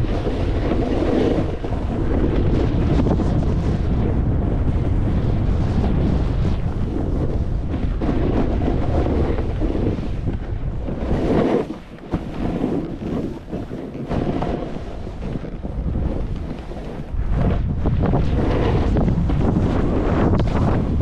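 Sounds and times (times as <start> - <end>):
snowboard scraping over snow: 0.0 - 21.0
wind buffeting microphone: 0.0 - 21.0.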